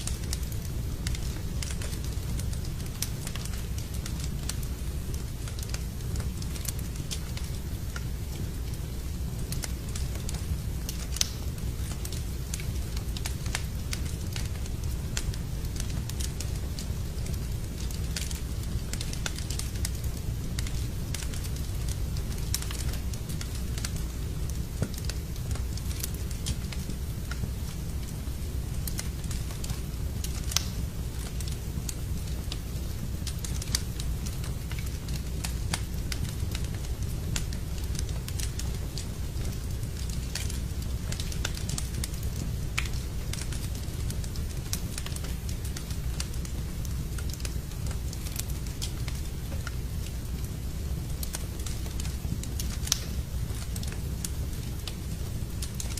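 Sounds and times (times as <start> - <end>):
sharp pops of fire: 0.0 - 28.2, 28.8 - 55.9
low rumble of fire: 0.0 - 55.9
wood fire crackling: 0.0 - 55.9.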